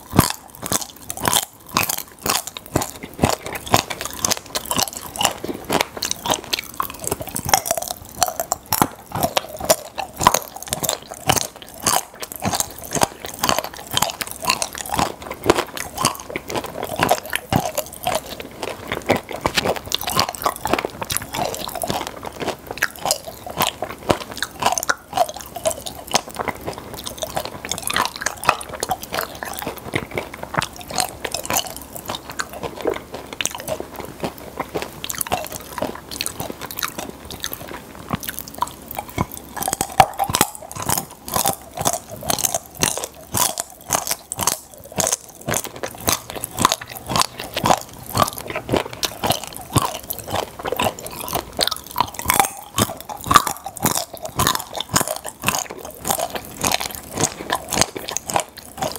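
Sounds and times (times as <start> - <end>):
chewing and crunching candy: 0.0 - 58.9
popping candy clicks and pops: 0.0 - 58.9.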